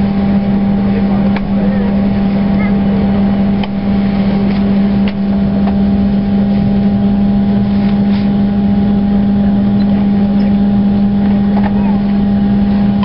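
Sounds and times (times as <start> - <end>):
airplane cabin drone: 0.0 - 13.0.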